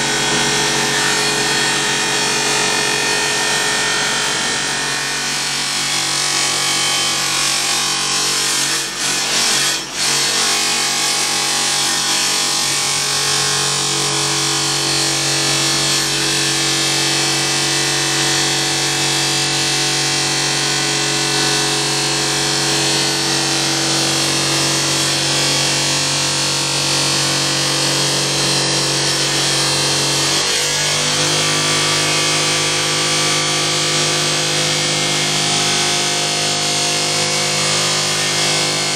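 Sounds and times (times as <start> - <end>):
power sander grinding metal: 0.0 - 38.9.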